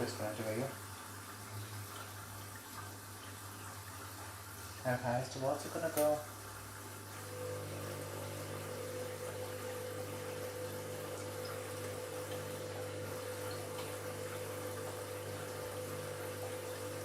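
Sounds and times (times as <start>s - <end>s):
washing machine humming: 0.0s - 17.0s
water rushing into drum: 0.0s - 17.0s.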